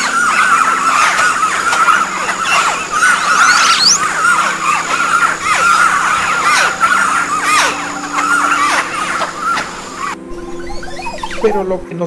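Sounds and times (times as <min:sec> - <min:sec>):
birds chirping calls: 0:00.0 - 0:12.0.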